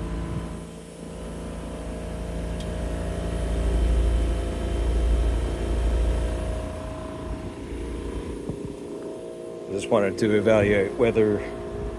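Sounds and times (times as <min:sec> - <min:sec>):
heat pump compressor and fan hum: 0:00.0 - 0:11.9.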